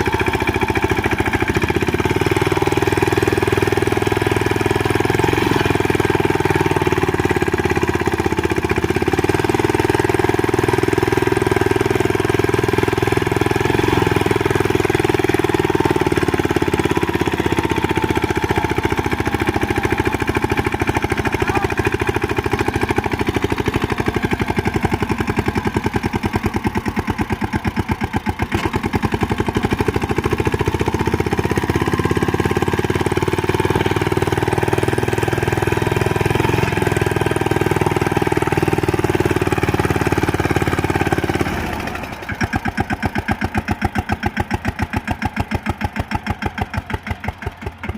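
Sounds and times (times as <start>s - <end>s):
tractor engine chugging: 0.0s - 47.9s.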